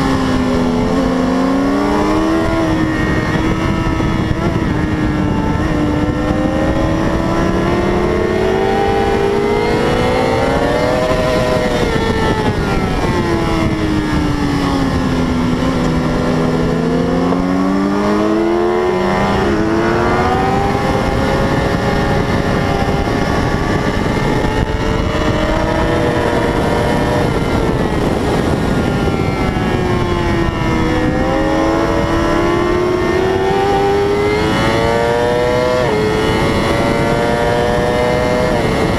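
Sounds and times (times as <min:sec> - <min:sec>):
motorcycle engine at high revs: 0:00.0 - 0:38.9
wind noise: 0:00.0 - 0:38.9.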